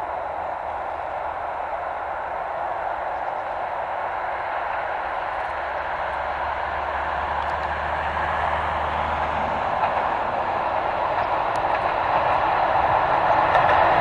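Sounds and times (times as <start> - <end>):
diesel locomotive engine hum: 0.0 - 14.0
train wheels on rails: 0.0 - 14.0.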